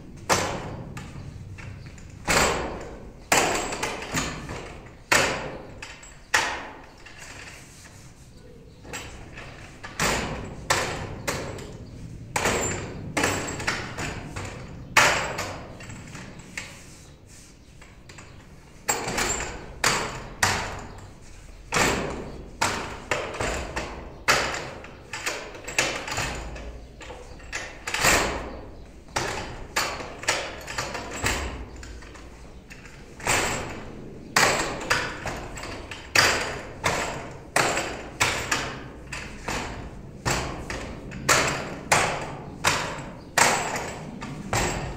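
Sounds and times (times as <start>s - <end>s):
sharp wooden knocks: 0.2s - 7.0s, 8.8s - 16.8s, 18.2s - 44.9s.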